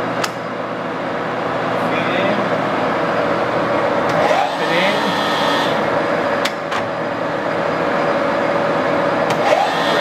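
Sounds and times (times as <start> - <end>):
lathe running with whine: 1.0 - 6.4, 7.0 - 10.0.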